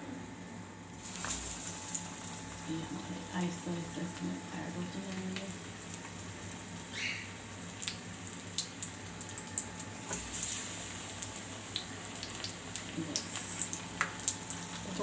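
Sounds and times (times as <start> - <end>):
food deep-frying in oil: 0.8 - 15.0.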